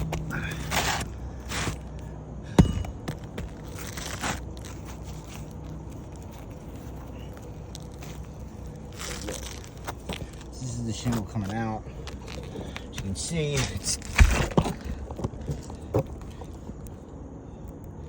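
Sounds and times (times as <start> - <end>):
scraping on roof shingles: 0.0 - 16.8
steady low hum: 0.0 - 18.0.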